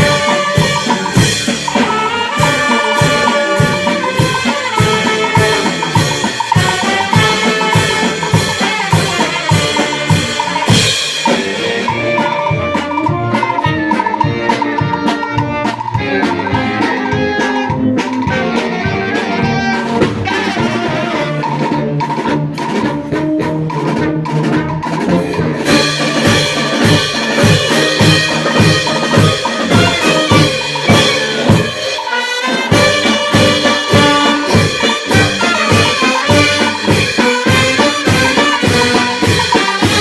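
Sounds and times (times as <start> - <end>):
brass band with drum kit: 0.0 - 40.0.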